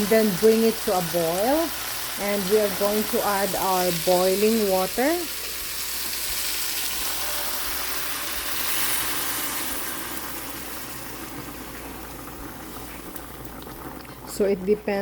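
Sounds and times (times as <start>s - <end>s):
water pouring into pot: 0.0s - 14.4s.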